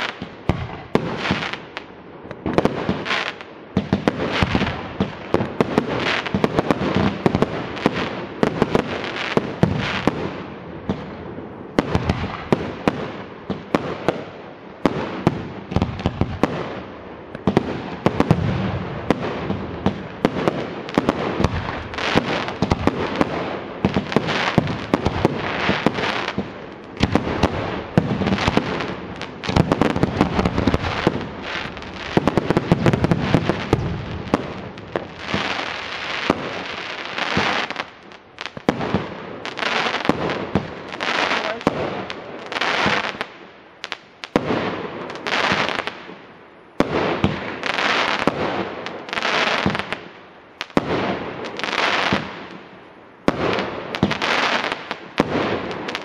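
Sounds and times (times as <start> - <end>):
fireworks bangs and pops: 0.0 - 56.0.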